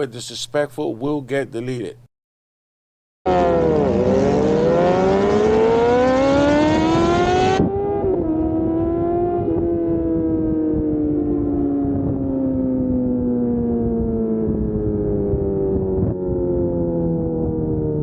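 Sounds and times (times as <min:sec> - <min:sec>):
motorcycle engine accelerating: 0:03.3 - 0:18.0.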